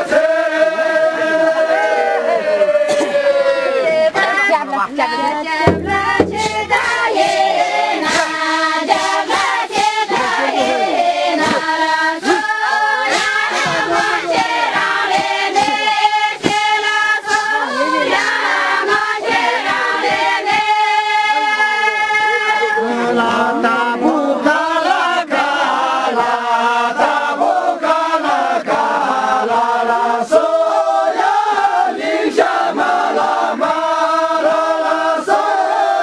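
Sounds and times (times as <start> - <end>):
group singing in unison: 0.0 - 36.0.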